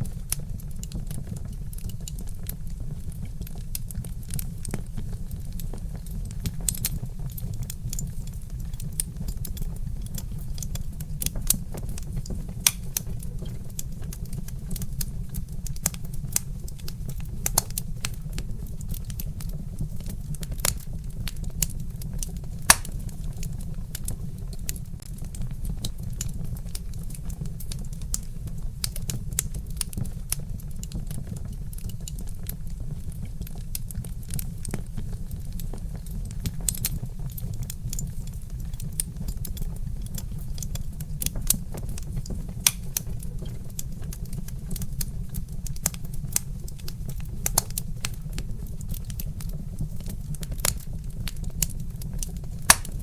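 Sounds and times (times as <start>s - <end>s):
low steady rumble: 0.0s - 53.0s
wood fire crackling: 0.0s - 53.0s.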